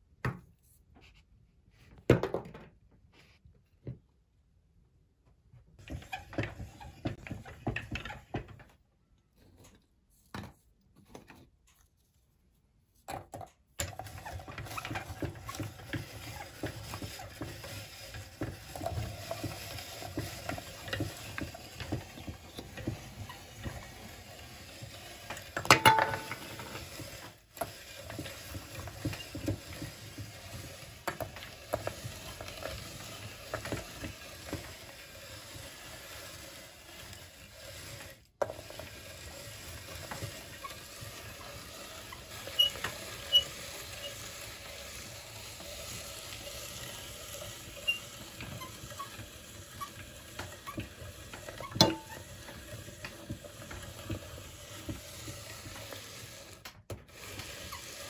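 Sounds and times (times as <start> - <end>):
meat grinder crunching cookies: 5.8 - 8.7, 13.3 - 58.0.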